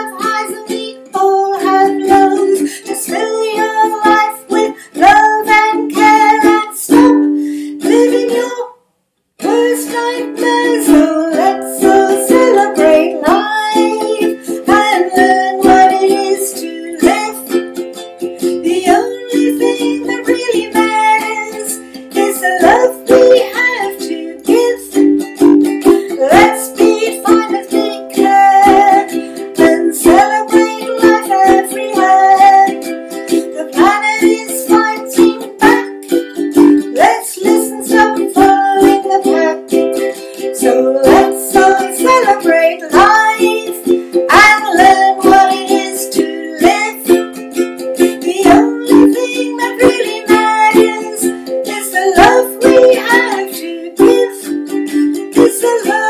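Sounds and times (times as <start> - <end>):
strummed ukulele: 0.0 - 8.8, 9.4 - 56.0
woman singing: 0.0 - 8.8, 9.4 - 56.0.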